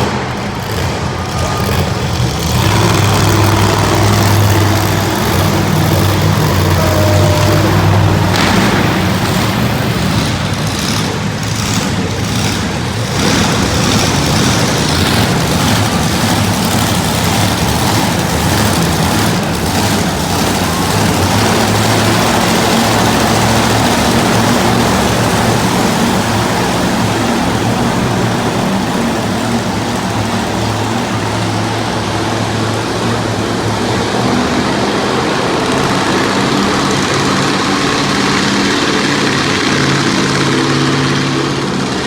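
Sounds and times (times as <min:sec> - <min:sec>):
monster truck engine running: 0:00.0 - 0:42.0.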